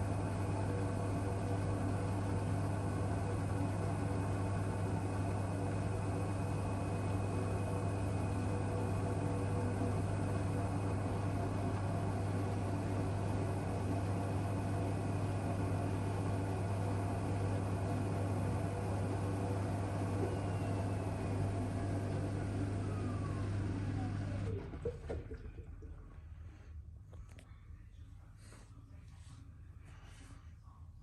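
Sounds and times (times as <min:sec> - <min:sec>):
washing machine spinning: 0:00.0 - 0:26.1.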